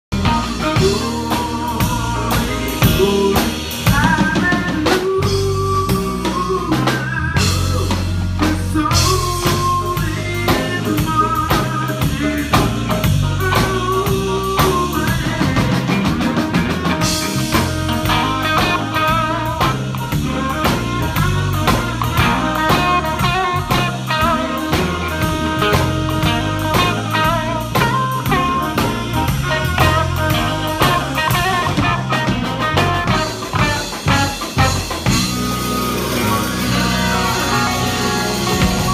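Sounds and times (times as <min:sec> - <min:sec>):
drum kit beat: 0:00.1 - 0:38.9
electric guitar: 0:00.1 - 0:38.9
saxophone melody: 0:00.2 - 0:38.9.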